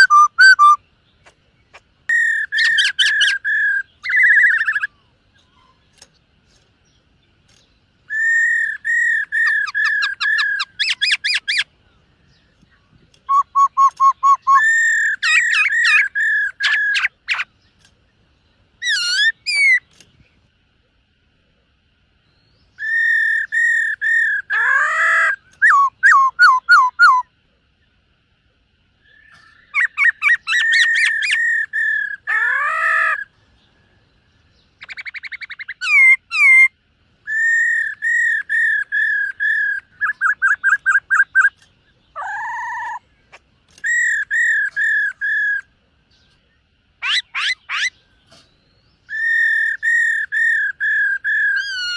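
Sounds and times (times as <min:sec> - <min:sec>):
bird singing: 0:00.0 - 0:51.9.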